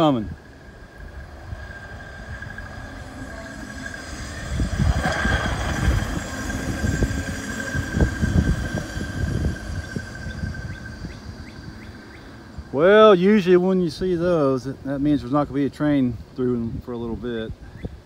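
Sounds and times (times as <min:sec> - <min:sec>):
truck rumbling along railroad track: 0:00.0 - 0:16.4.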